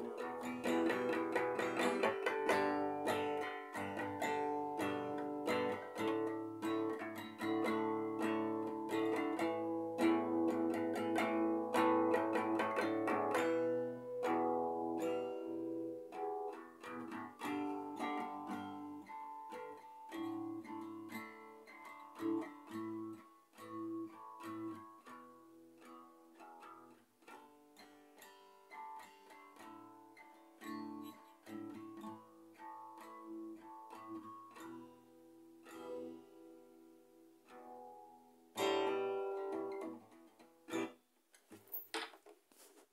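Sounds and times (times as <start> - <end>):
acoustic guitar playing: 0.0 - 41.1.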